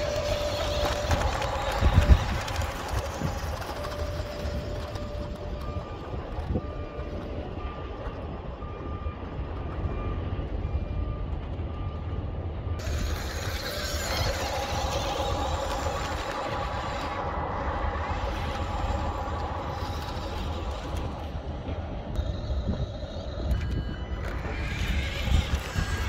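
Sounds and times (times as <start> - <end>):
toy truck driving over gravel: 0.0 - 10.6, 12.8 - 26.0
electric drive whine: 0.0 - 26.0
wind rumble on microphone: 0.0 - 26.0.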